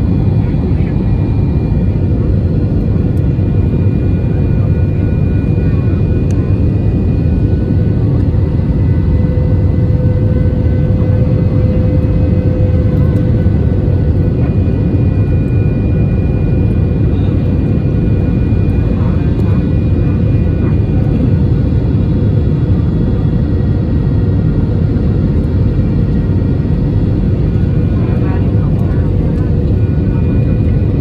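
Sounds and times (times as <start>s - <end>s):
jet engines and airflow rumble: 0.0s - 31.0s.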